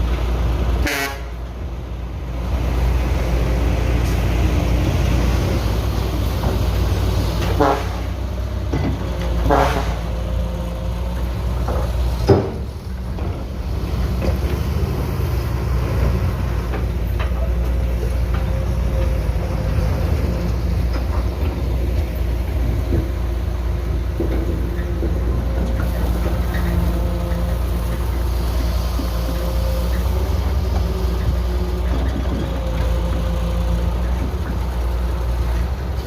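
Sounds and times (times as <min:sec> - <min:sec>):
diesel machinery running: 0:00.0 - 0:36.0.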